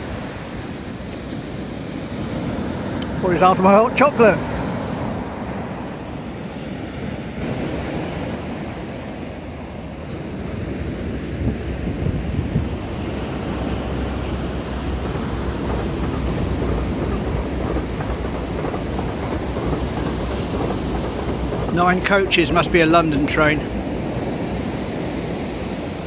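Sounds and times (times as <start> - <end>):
sea waves washing onto beach: 0.0 - 26.0
wind buffeting microphone: 0.0 - 26.0.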